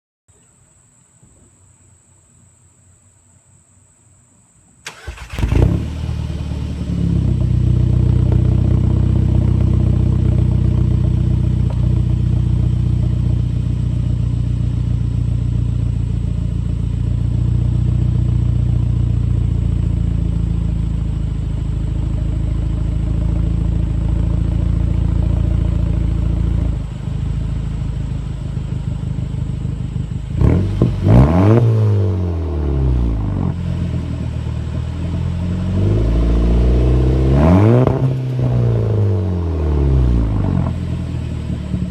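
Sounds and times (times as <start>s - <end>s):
car engine idling raspy: 4.9s - 41.9s
car engine revving: 4.9s - 41.9s.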